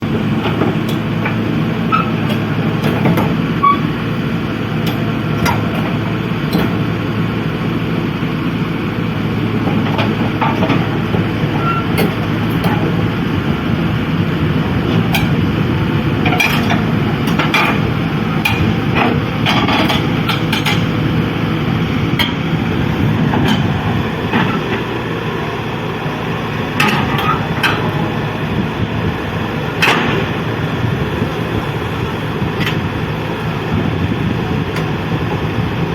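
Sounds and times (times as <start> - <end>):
diesel machinery running: 0.0 - 35.9.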